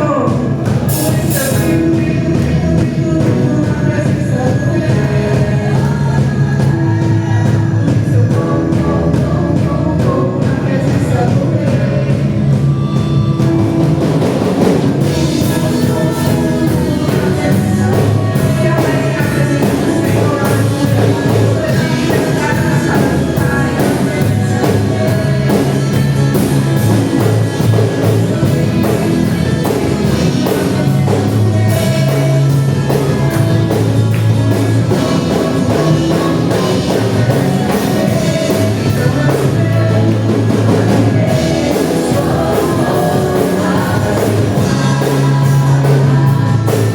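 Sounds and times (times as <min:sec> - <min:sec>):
band playing a hymn: 0:00.0 - 0:46.9
drum kit beat: 0:00.0 - 0:46.9.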